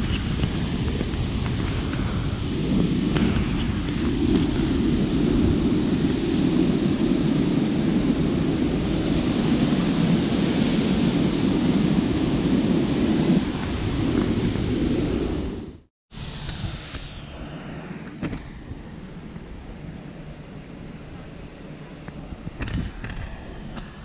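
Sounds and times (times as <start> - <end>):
loud rushing noise: 0.0 - 20.4.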